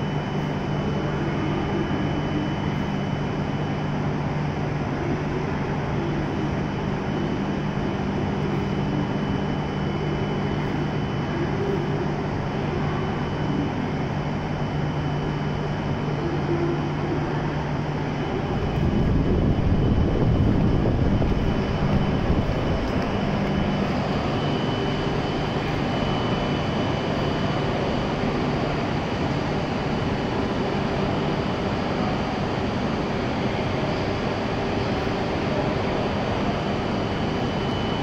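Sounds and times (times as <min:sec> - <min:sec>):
faint high whine: 0:00.0 - 0:38.0
train equipment humming: 0:00.0 - 0:38.0.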